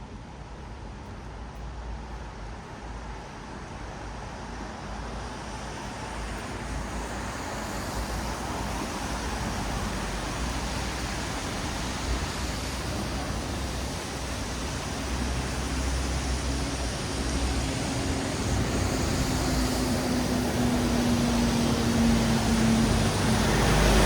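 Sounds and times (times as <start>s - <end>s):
low traffic rumble: 0.0s - 24.0s
tyres hissing on wet road: 4.1s - 24.0s.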